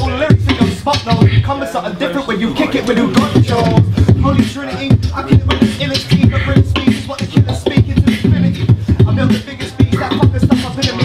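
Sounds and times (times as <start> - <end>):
person beatboxing into microphone: 0.0 - 11.0.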